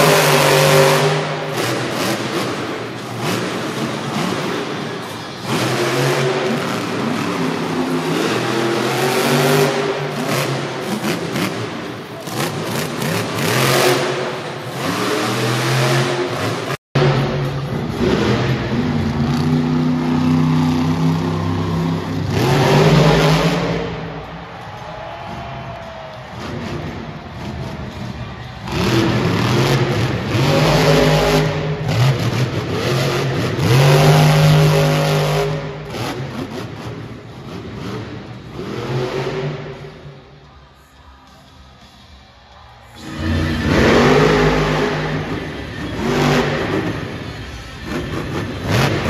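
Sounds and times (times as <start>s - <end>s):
truck engine revving hard: 0.0s - 24.5s, 26.3s - 40.2s, 43.0s - 49.0s.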